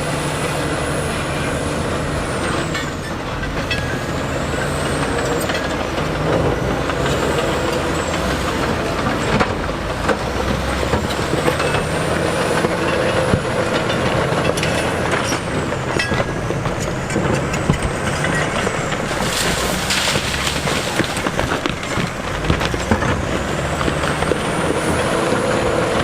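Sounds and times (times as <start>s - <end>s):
diesel machine engine running: 0.0s - 26.0s
machinery clatter and knocks: 0.0s - 26.0s.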